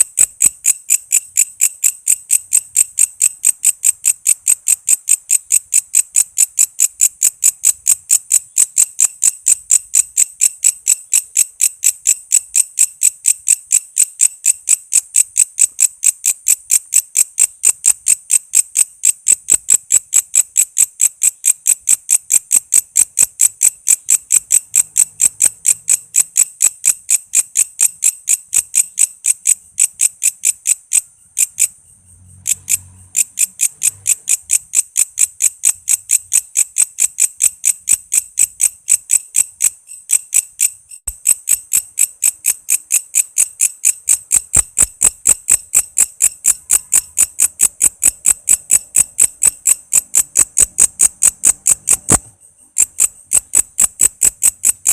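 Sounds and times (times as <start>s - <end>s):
insect chirping: 0.0s - 54.9s.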